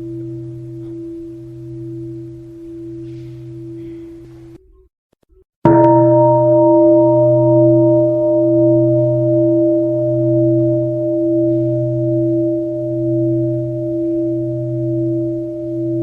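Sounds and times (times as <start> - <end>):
bell ringing with deep hum: 0.0 - 4.6, 5.7 - 16.0.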